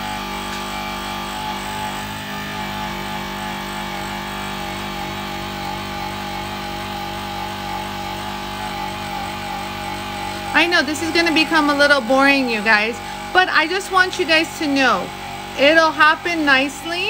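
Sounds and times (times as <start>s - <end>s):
abrasive wheel scrubbing metal: 0.0s - 17.0s
power tool motor whine: 0.0s - 17.0s.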